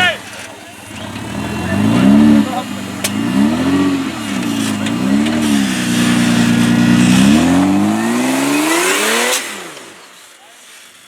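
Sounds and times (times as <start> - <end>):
off-road car engine revving: 0.0 - 10.4.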